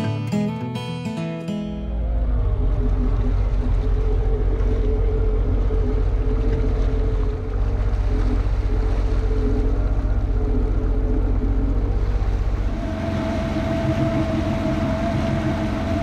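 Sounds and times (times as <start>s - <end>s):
jet ski engine humming: 1.6s - 16.0s.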